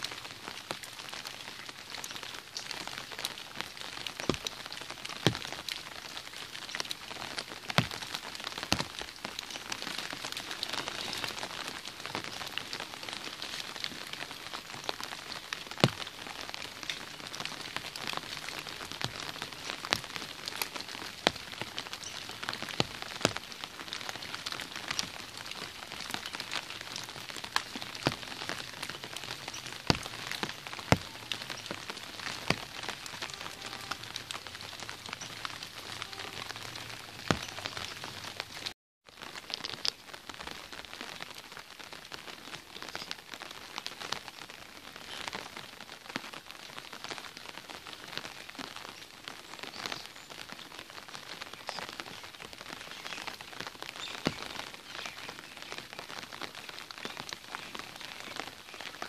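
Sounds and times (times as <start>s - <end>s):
raindrops tapping on umbrella: 0.0s - 59.0s
steady rain hissing: 0.0s - 59.0s.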